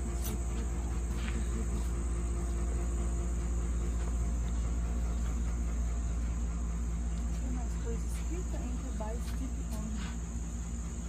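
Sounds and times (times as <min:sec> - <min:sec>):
hot tub pump humming: 0:00.0 - 0:11.0.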